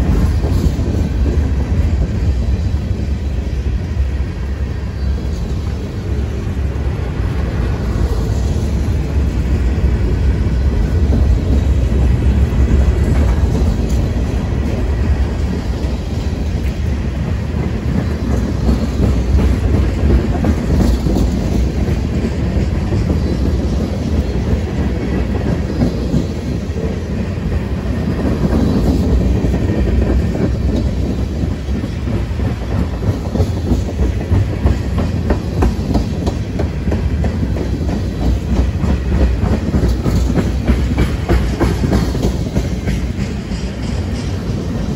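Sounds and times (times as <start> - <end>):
steel wheels rumbling on rail: 0.0 - 44.9.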